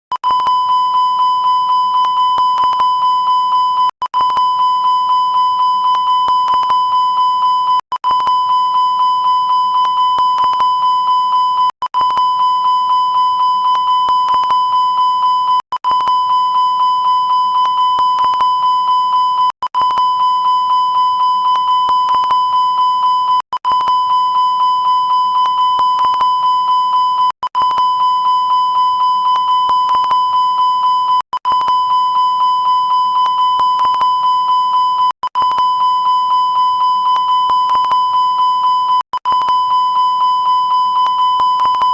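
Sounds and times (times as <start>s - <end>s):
high pulsing alarm beep: 0.1s - 41.9s.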